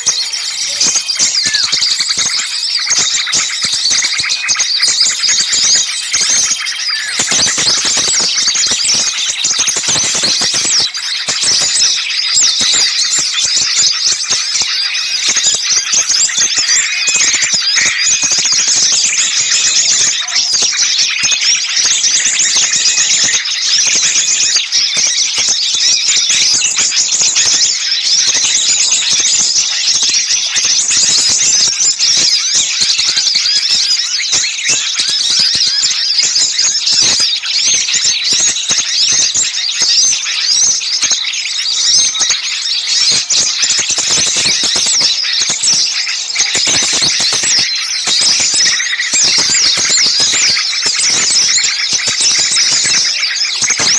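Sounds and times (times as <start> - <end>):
small songbirds chirping chorus: 0.0 - 53.9.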